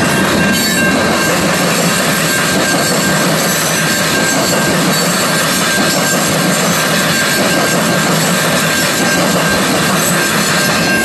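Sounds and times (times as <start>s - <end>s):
thin high tone: 0.0s - 11.0s
train wheels on track: 0.0s - 11.0s.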